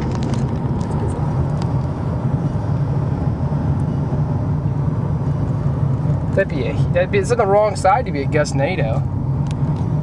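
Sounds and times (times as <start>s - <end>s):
car road and engine drone: 0.0s - 10.0s.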